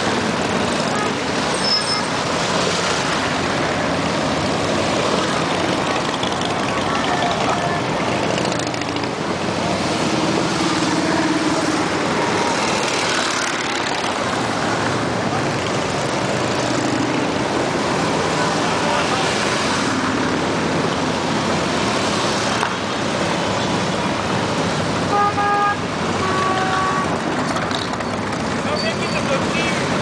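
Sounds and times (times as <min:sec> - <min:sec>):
motorcycle engines running: 0:00.0 - 0:30.0
road noise: 0:00.0 - 0:30.0.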